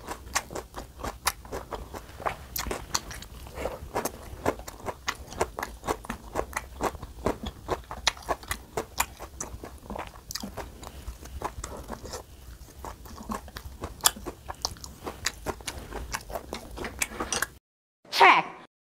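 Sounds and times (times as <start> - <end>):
chewing crisp raw vegetables: 0.0 - 17.6.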